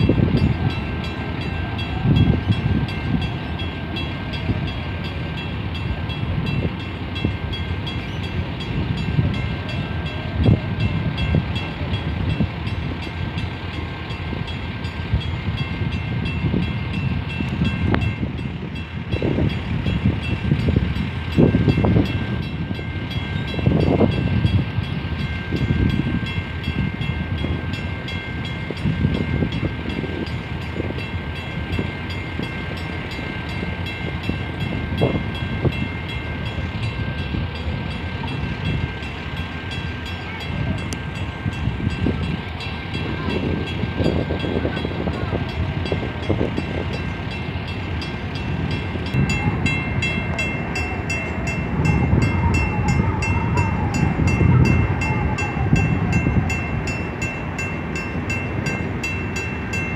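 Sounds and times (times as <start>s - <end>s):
ship diesel engines rumbling: 0.0s - 59.9s.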